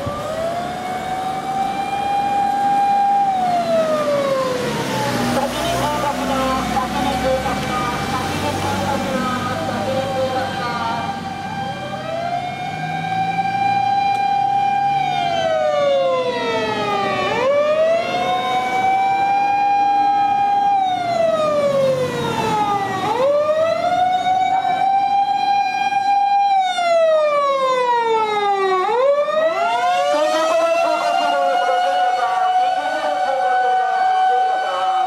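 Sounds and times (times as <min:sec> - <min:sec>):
fire engine siren wailing: 0:00.0 - 0:35.0.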